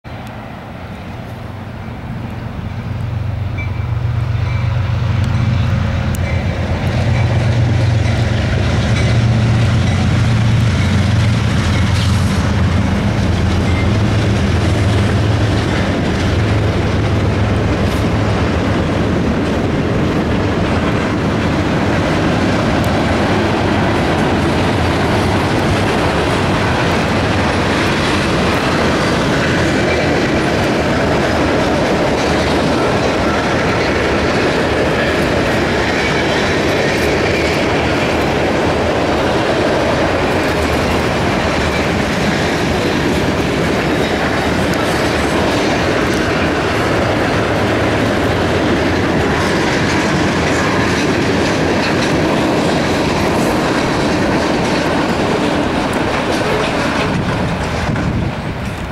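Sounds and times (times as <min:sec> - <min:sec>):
freight train wheels clicking on rails: 0:00.0 - 0:58.9.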